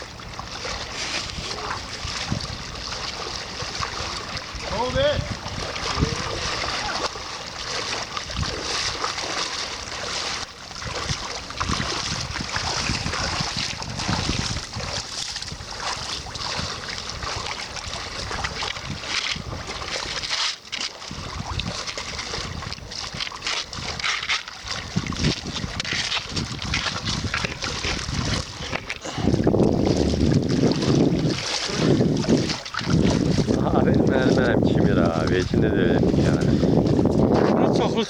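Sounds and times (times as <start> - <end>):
wind buffeting microphone: 0.0 - 20.3, 21.1 - 38.0
sea waves splashing at shore: 0.0 - 38.0.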